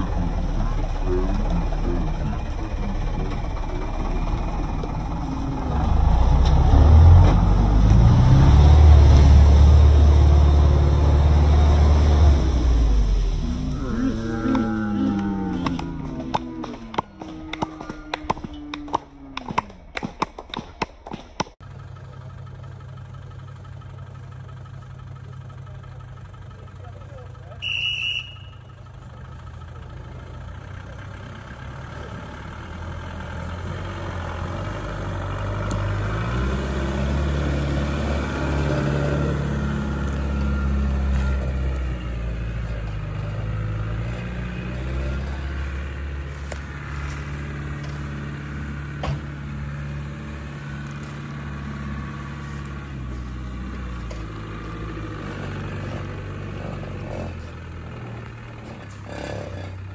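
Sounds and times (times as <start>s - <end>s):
engine running at low revs: 0.0s - 20.6s, 21.5s - 59.9s.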